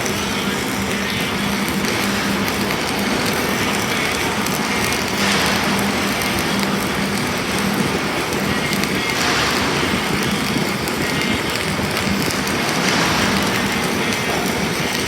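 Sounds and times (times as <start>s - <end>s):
welding arc crackling: 0.0s - 15.0s.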